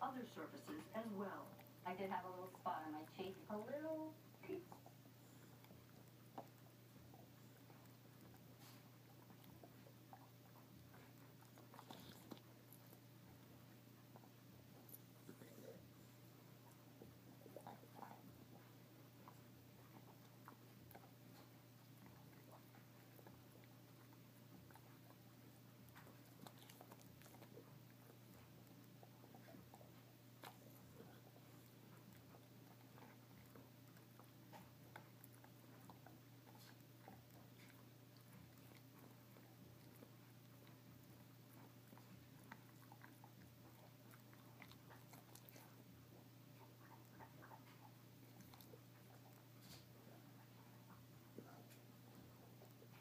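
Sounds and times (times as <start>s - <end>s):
dog chewing: 0.0s - 53.0s.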